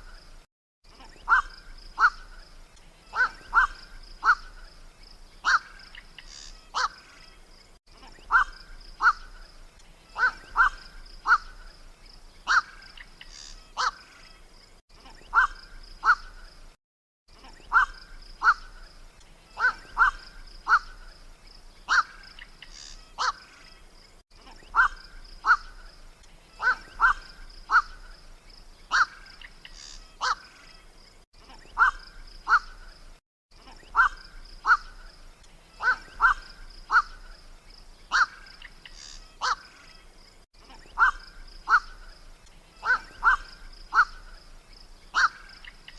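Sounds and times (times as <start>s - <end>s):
night heron calls: 1.0s - 4.8s, 5.4s - 7.4s, 8.2s - 14.5s, 15.2s - 16.5s, 17.4s - 21.2s, 21.8s - 23.6s, 24.6s - 33.0s, 33.6s - 45.9s.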